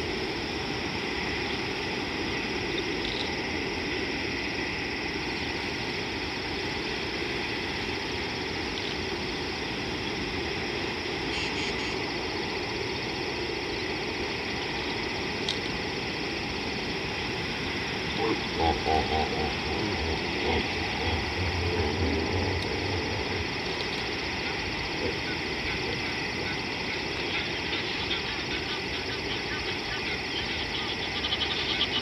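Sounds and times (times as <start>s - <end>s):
outdoor ambience hiss: 0.0s - 32.0s.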